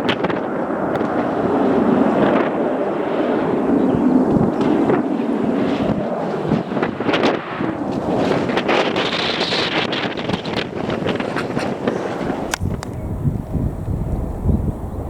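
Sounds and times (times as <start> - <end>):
airliner engine noise: 0.0 - 15.0
wind buffeting microphone: 0.0 - 15.0.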